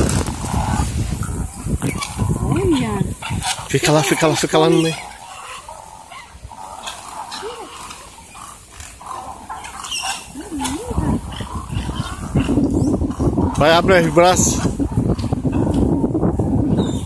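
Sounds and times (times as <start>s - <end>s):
egrets calling: 0.0s - 15.8s.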